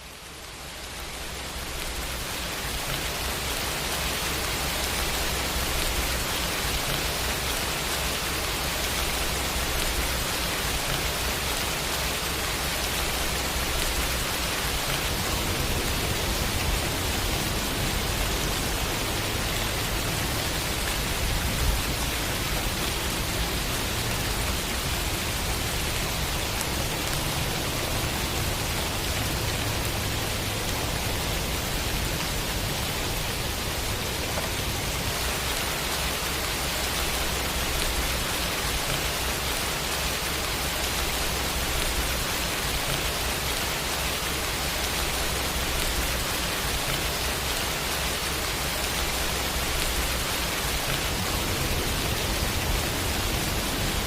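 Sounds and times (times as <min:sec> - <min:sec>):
heavy rainfall hiss: 0:00.0 - 0:54.0.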